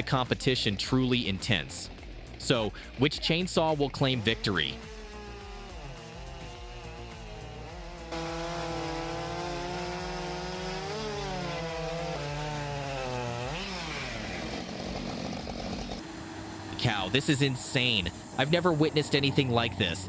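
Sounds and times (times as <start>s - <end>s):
chainsaw cutting at high revs: 0.0s - 16.7s.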